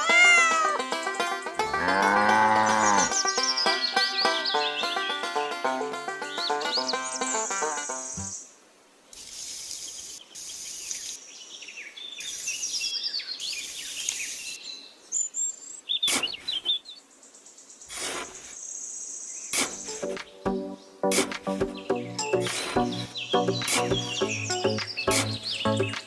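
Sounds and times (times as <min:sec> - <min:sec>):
small birds chirping: 0:00.0 - 0:08.4, 0:09.7 - 0:26.0.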